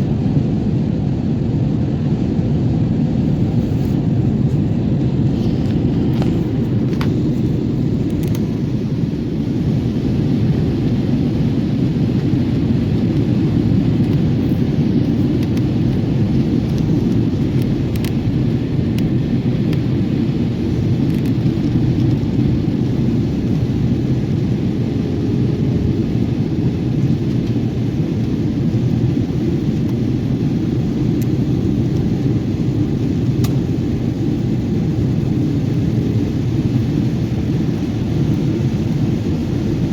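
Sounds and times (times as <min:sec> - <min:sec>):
airliner cabin engine roar: 0:00.0 - 0:39.9.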